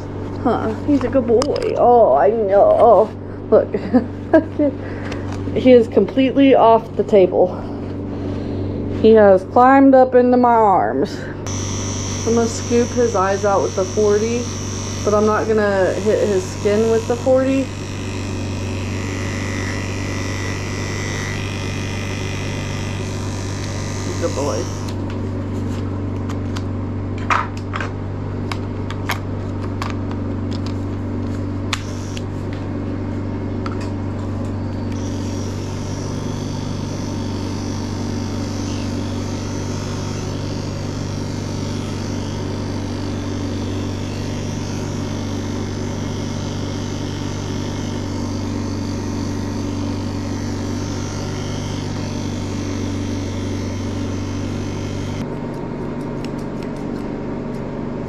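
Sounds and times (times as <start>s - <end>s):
electric clipper buzzing: 0.0s - 10.6s, 11.4s - 57.7s.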